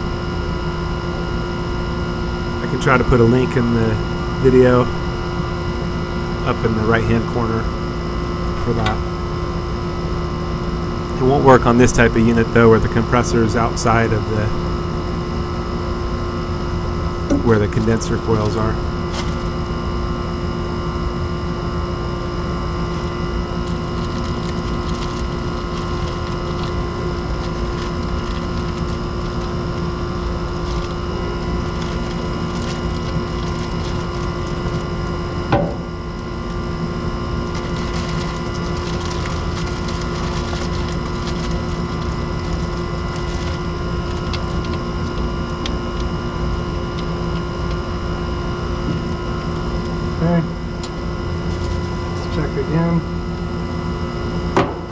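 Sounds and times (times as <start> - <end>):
machine hum: 0.0 - 22.2, 25.2 - 54.9.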